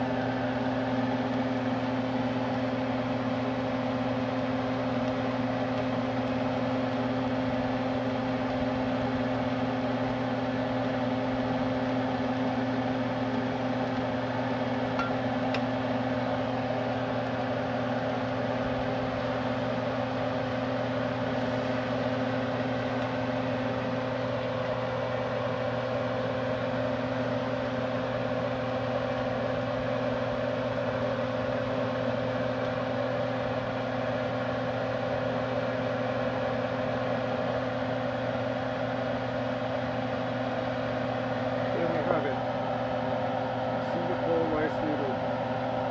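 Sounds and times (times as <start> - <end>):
kitchen exhaust fan humming: 0.0 - 45.9.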